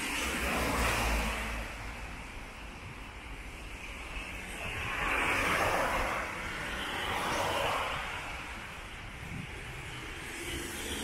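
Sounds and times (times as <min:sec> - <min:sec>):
tyres hissing on wet road: 0:00.0 - 0:11.0.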